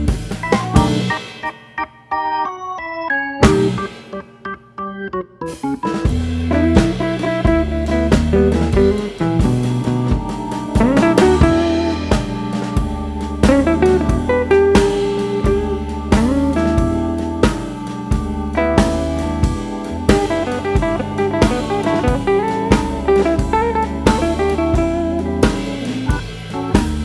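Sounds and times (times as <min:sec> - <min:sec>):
blues-rock band music: 0:00.0 - 0:01.8, 0:03.4 - 0:27.0.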